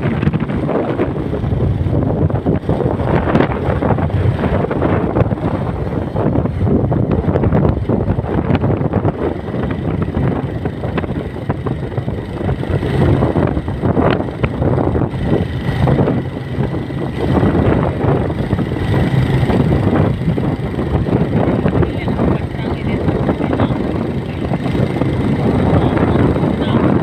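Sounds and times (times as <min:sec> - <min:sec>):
low rumble: 0:00.0 - 0:27.0
wind buffeting microphone: 0:00.0 - 0:27.0.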